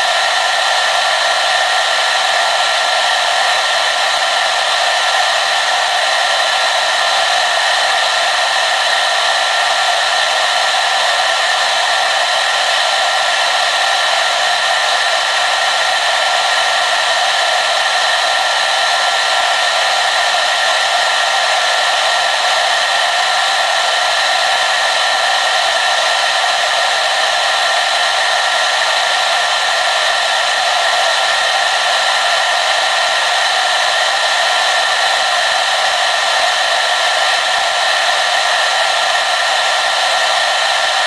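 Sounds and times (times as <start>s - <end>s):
hair dryer blowing: 0.0s - 41.0s.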